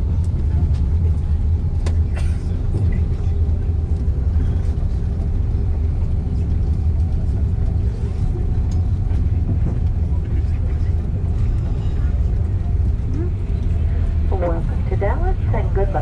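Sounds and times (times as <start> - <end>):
low rumble inside aircraft cabin: 0.0 - 16.0.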